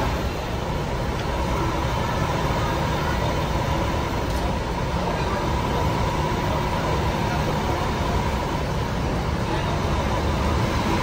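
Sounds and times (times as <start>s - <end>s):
bus engines idling: 0.0s - 11.0s.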